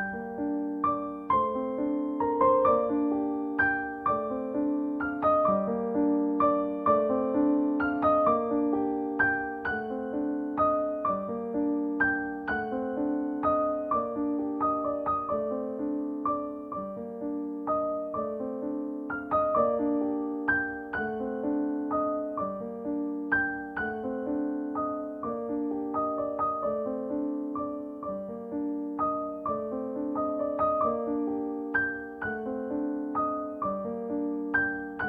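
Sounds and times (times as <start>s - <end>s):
gentle piano music: 0.0s - 35.0s.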